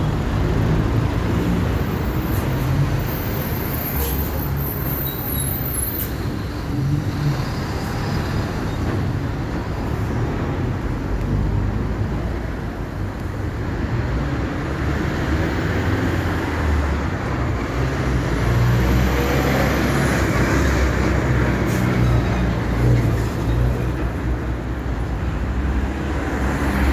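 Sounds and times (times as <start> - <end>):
bus diesel engine rumbling: 0.0 - 26.9.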